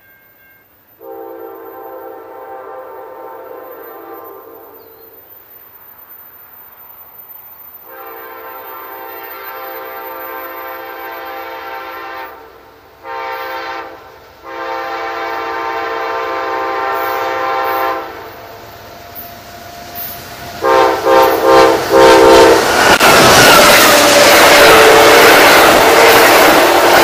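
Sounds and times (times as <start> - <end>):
train air horn blasts: 1.0 - 5.0, 7.8 - 18.4, 20.0 - 27.0.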